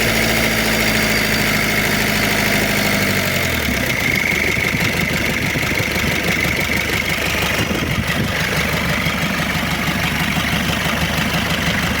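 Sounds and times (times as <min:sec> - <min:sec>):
diesel engine idling roughly: 0:00.0 - 0:12.0.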